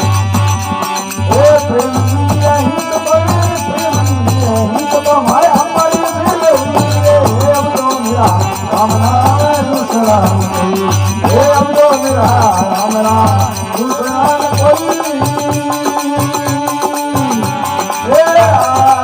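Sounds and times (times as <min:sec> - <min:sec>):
hand cymbals: 0:00.0 - 0:19.0
ornamented melody line: 0:00.0 - 0:19.0
steady drum rhythm: 0:00.0 - 0:19.0.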